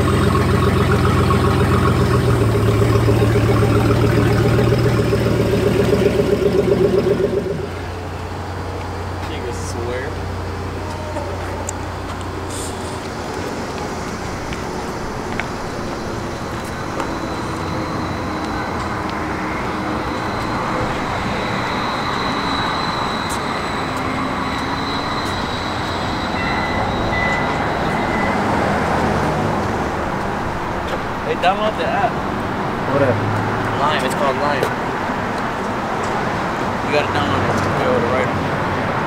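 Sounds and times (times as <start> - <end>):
city traffic noise: 0.0 - 39.0.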